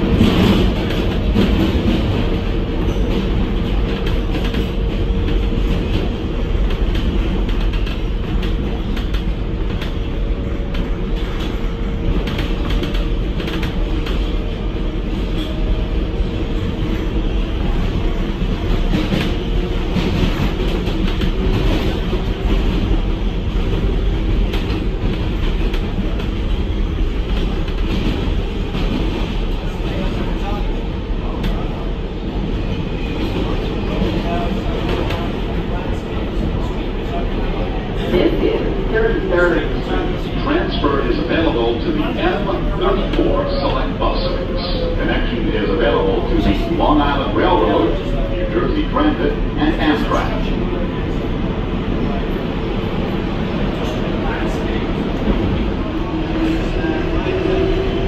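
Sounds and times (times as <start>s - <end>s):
subway train wheels rumbling on rail: 0.0s - 58.0s.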